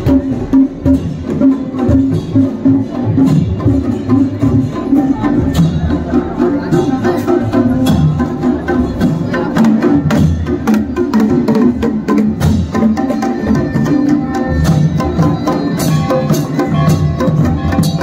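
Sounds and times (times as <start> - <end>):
hand drums beating fast: 0.0 - 18.0.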